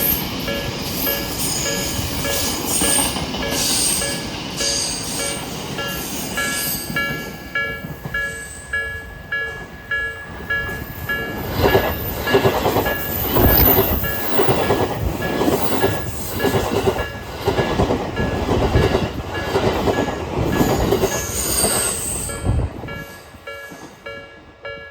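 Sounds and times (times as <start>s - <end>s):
train wheels clattering over rail joints: 0.0s - 8.4s, 9.4s - 24.1s
level crossing warning bells: 0.0s - 24.9s.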